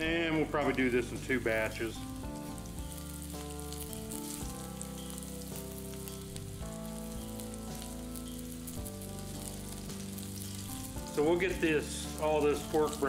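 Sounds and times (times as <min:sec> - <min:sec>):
meat sizzling in oil: 0:00.0 - 0:13.0
soft background music: 0:00.0 - 0:13.0.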